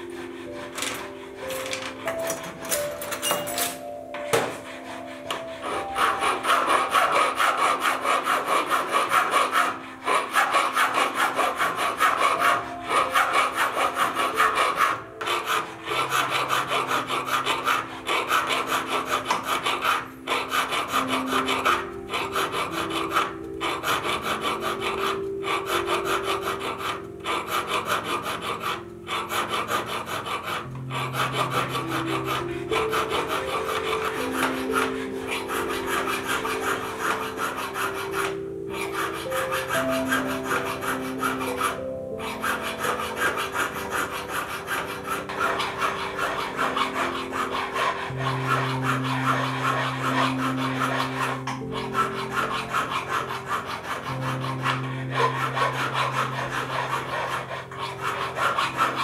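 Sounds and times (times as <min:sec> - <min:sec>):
hand file rasping on metal: 0:00.0 - 0:59.0.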